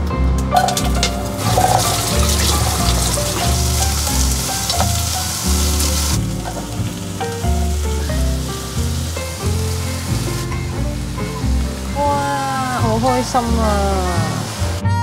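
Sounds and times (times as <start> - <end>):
background music with bass line: 0.0 - 15.0
onion sizzling in hot oil: 0.5 - 14.9.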